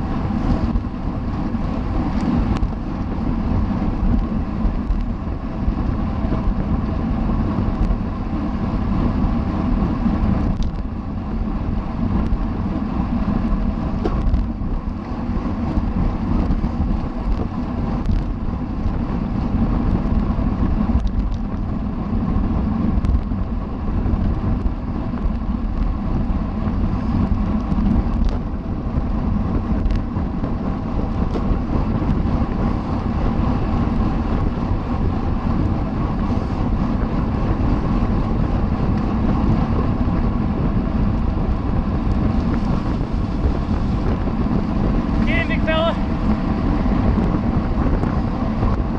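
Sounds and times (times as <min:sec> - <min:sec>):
bicycle tyres and drivetrain humming: 0:00.0 - 0:48.9
wind rushing over microphone: 0:00.0 - 0:48.9.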